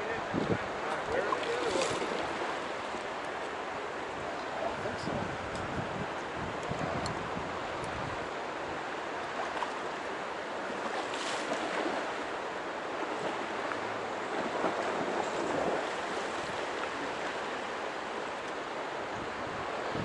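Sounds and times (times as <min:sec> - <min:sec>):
shallow river flowing: 0:00.0 - 0:20.0.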